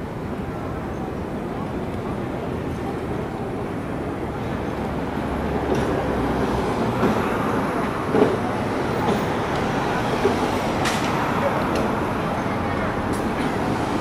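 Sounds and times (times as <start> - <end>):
electric tram rumbling: 0.0 - 14.0
street noise: 0.0 - 14.0.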